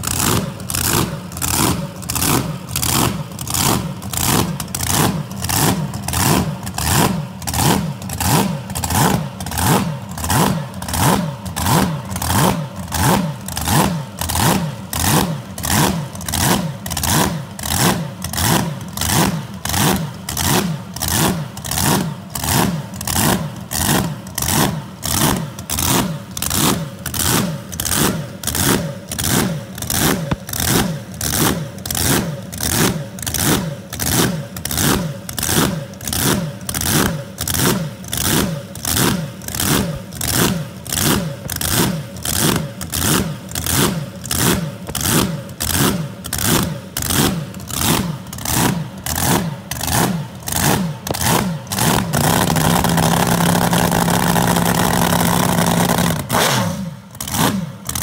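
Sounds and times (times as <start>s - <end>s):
boat engine idling with blower surge: 0.0s - 56.4s.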